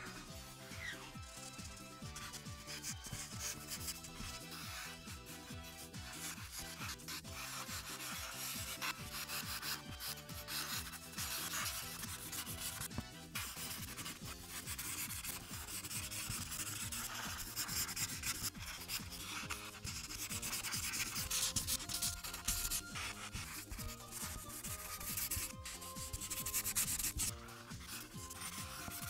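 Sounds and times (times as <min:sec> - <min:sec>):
marker scratching on paper: 0:00.0 - 0:29.0.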